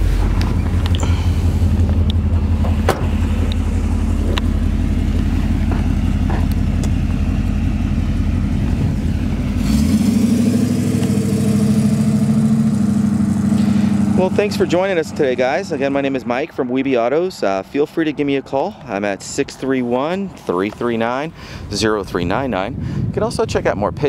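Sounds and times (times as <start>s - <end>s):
car engine and exhaust: 0.0s - 24.0s.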